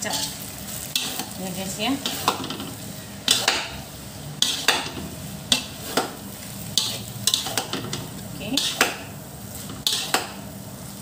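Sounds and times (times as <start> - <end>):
metal spatulas scraping a wok: 0.0 - 10.4
frying sizzle: 0.0 - 11.0.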